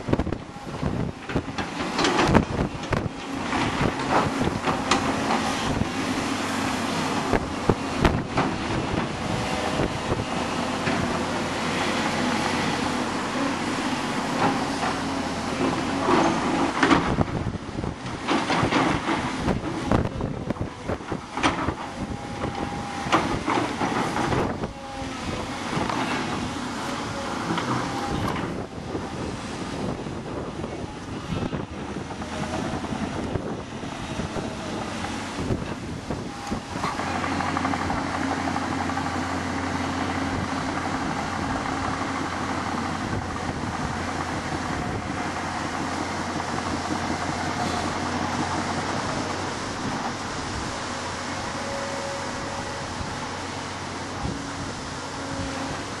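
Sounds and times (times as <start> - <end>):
faint drone of excavators: 0.0 - 56.0
wind buffeting microphone: 0.0 - 56.0.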